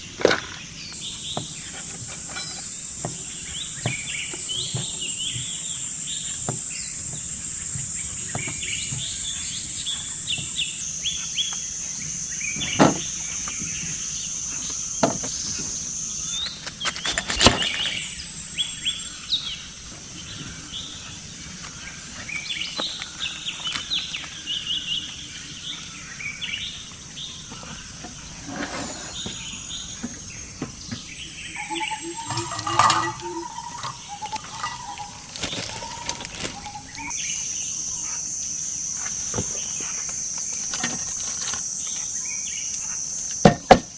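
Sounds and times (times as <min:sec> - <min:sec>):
forest birds chirping: 0:00.0 - 0:43.5.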